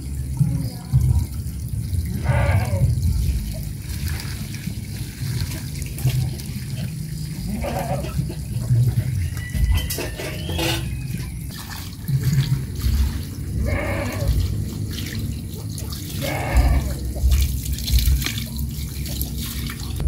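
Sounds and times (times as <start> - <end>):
hose running water: 0.0 - 20.0
water pouring from a pot: 0.0 - 20.0
water splashing and trickling: 0.0 - 20.0.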